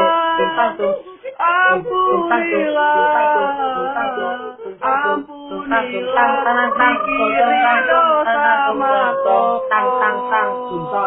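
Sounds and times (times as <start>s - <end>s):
person singing wordless melody: 0.0s - 11.0s.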